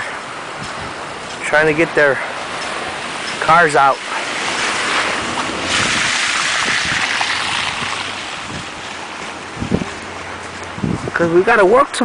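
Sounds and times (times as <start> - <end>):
blizzard wind gusting: 0.0 - 11.2.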